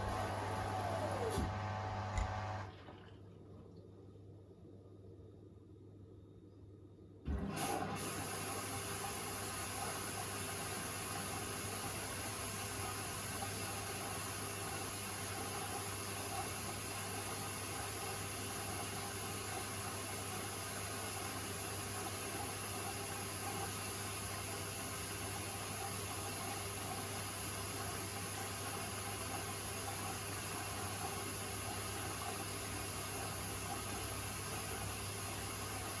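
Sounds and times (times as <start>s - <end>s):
water rushing in washing machine: 0.0s - 3.3s, 7.3s - 36.0s
washing machine low hum: 0.0s - 6.0s, 7.2s - 36.0s.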